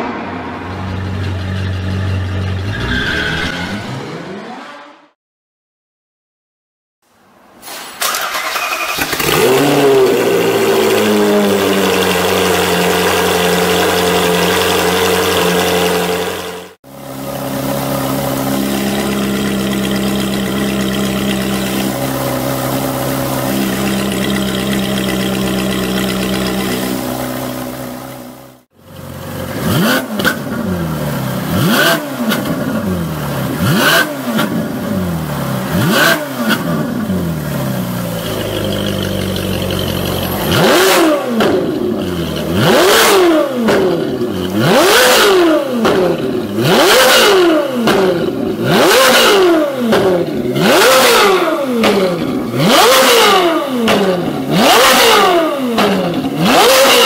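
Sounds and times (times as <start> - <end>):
car engine idling and revving: 0.0 - 5.2, 8.1 - 57.0.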